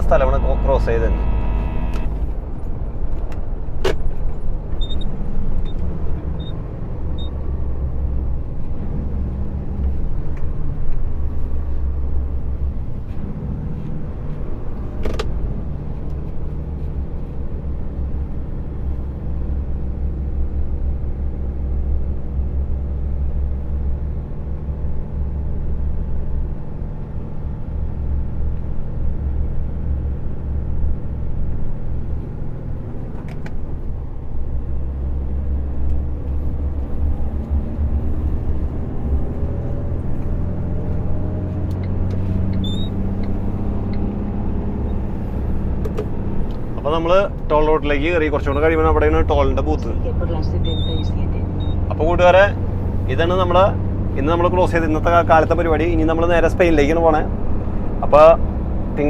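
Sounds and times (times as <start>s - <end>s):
truck engine and road noise: 0.0s - 59.0s.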